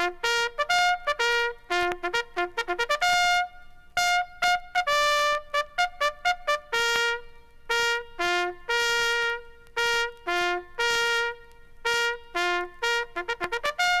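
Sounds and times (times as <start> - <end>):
solo bugle call: 0.0 - 14.0.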